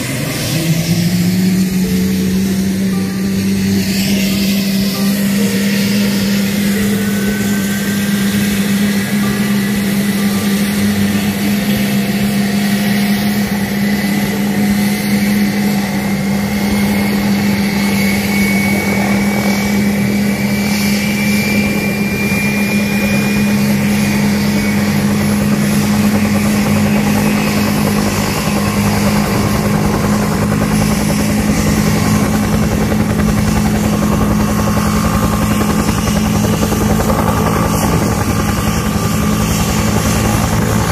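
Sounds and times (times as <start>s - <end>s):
helicopter low hum: 0.0s - 40.9s
turbine engine whine: 0.0s - 40.9s.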